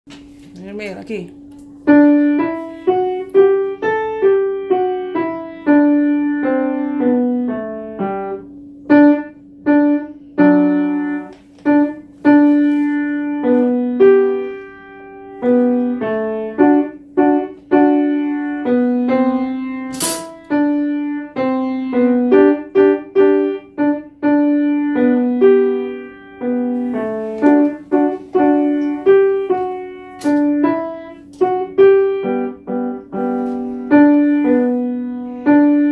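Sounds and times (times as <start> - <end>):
solo piano: 1.3 - 35.9.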